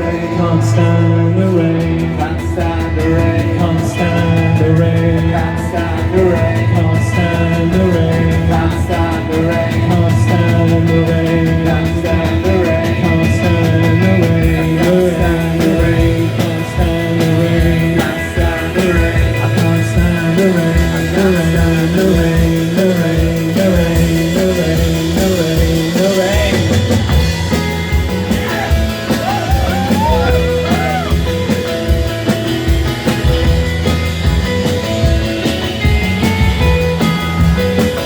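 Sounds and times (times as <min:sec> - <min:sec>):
live rock band playing: 0:00.0 - 0:38.0
melodic line with bent notes: 0:00.0 - 0:38.0.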